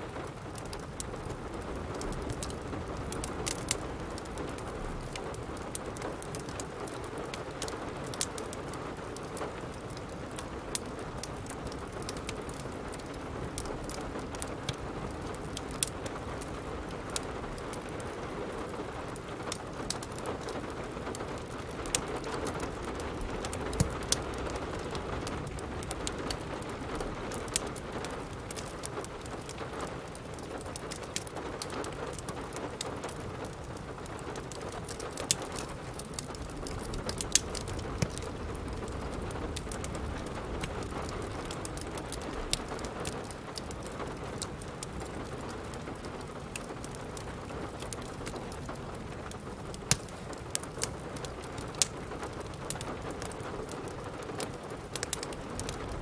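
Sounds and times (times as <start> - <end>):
steady rain hiss: 0.0 - 56.0
wood fire crackling and popping: 0.0 - 56.0.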